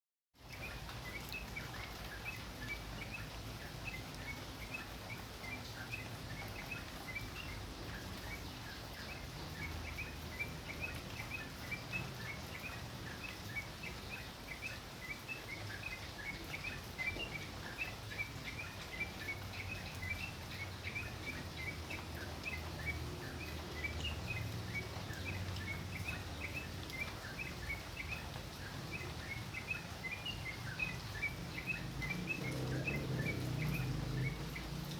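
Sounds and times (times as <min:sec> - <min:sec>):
songbird chirping: 0:00.4 - 0:34.9.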